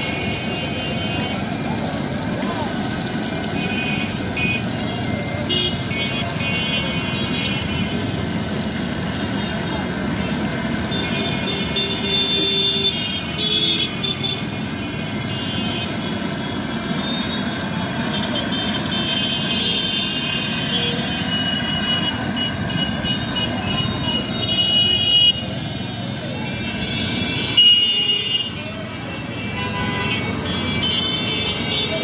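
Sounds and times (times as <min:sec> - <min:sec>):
oil bubbling and sizzling: 0:00.0 - 0:32.0
street traffic: 0:00.0 - 0:32.0.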